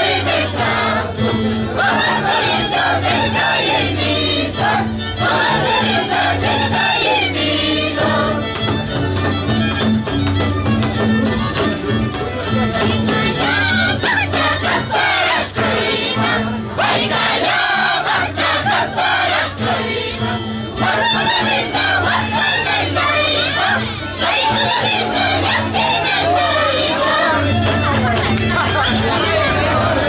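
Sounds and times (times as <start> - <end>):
group of voices singing: 0.0 - 8.9, 12.8 - 30.0.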